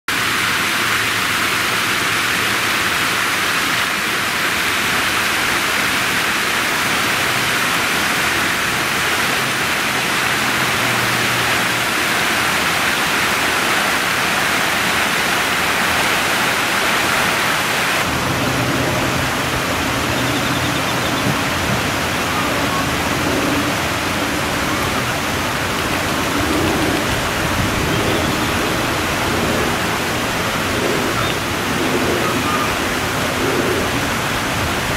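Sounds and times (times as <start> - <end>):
loud rushing noise: 0.1 - 34.9.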